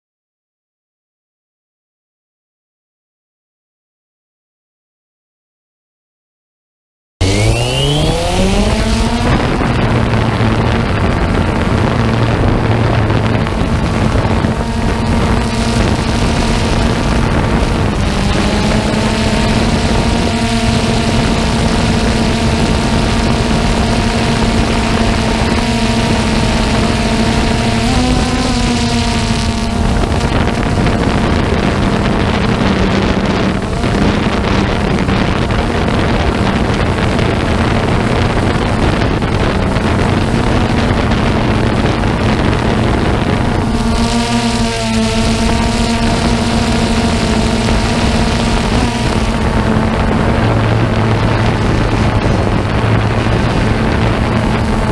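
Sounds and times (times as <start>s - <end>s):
drone motors whining: 7.2s - 54.9s
wind buffeting microphone: 7.2s - 54.9s.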